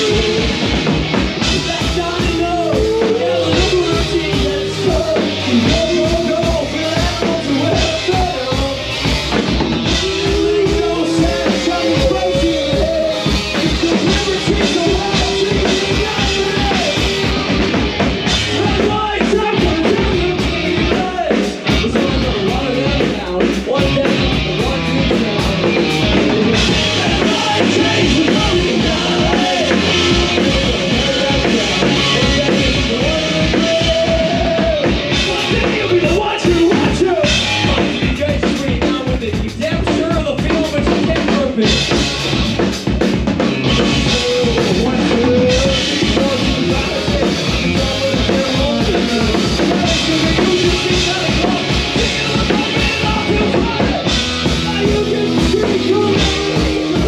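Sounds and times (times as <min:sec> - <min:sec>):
drum kit beat: 0:00.0 - 0:57.0
punk rock band playing: 0:00.0 - 0:57.0.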